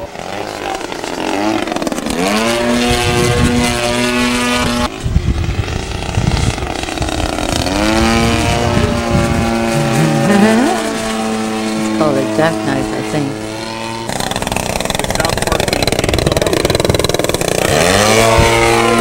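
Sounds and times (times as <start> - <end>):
model airplane engine buzzing: 0.0 - 19.0.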